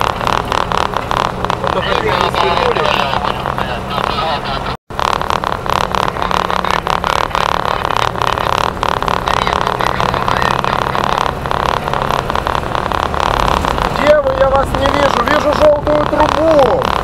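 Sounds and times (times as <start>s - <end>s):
tyre hum: 0.0s - 17.0s
vehicle engine running: 0.0s - 17.0s.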